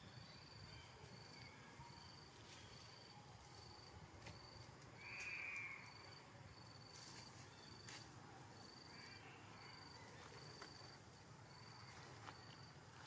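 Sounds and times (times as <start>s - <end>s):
insect chirping: 0.0s - 8.0s, 8.6s - 13.0s.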